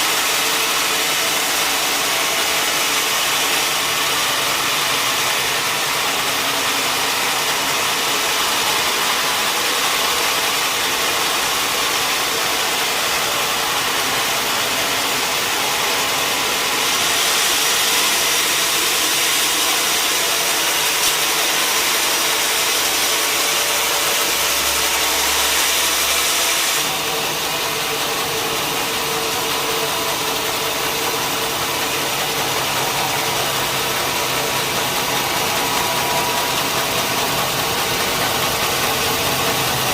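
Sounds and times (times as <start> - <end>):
sawmill saw machinery: 0.0 - 39.9.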